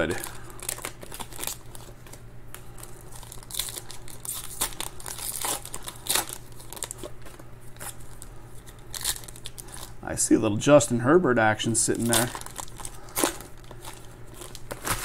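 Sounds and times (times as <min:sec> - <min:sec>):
foil wrappers crinkling and tearing: 0:00.0 - 0:10.0, 0:11.8 - 0:15.0
steady low hum: 0:00.0 - 0:15.0.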